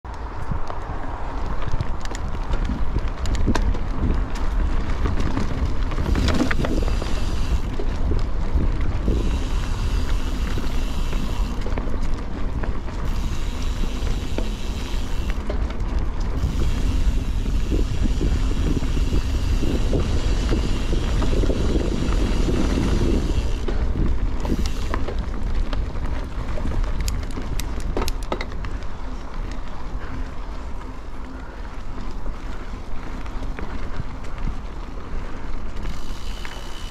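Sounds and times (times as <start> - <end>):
bicycle clicks and rattles: 0.1 - 36.9
wind buffeting microphone: 0.1 - 36.9.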